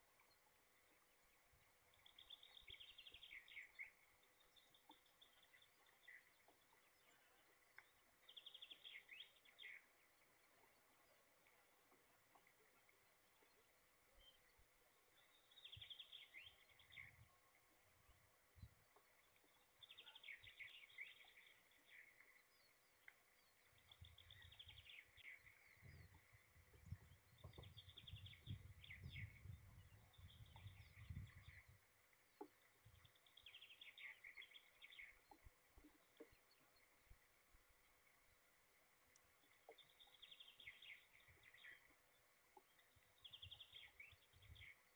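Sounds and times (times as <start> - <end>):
small songbird singing: 0.0 - 11.8, 12.4 - 44.9.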